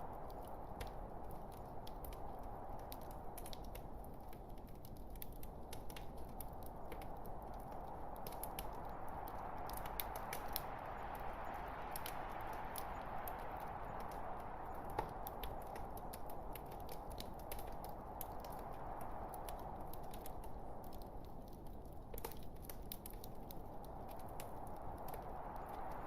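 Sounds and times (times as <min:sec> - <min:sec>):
log fire crackling: 0:00.0 - 0:26.0.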